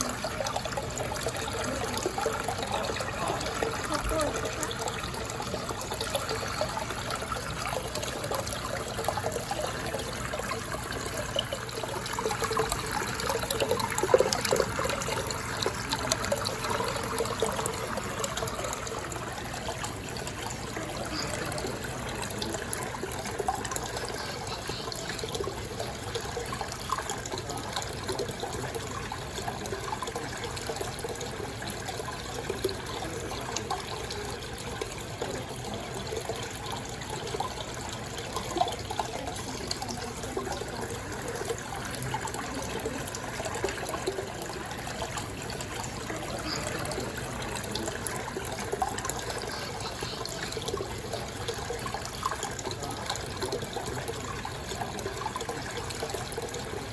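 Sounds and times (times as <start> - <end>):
aquarium water bubbling: 0.0 - 56.9.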